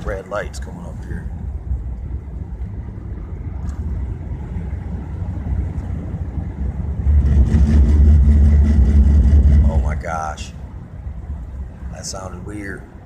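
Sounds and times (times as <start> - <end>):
car tyre and road rumble: 0.0 - 13.0.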